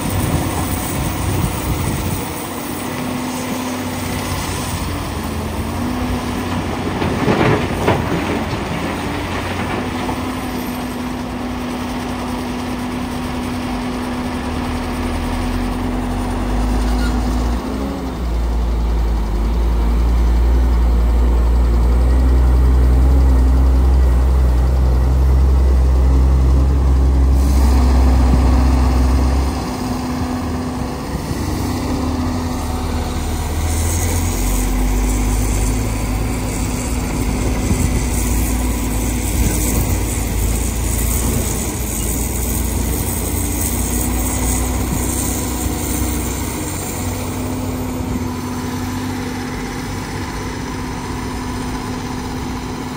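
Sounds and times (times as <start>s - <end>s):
dump truck diesel engines: 0.0s - 52.9s
excavator engine running: 0.0s - 52.9s.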